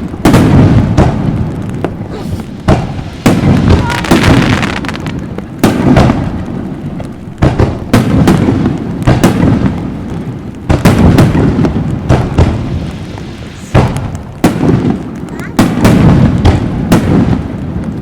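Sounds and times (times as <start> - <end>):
fireworks booming with echo: 0.0 - 18.0.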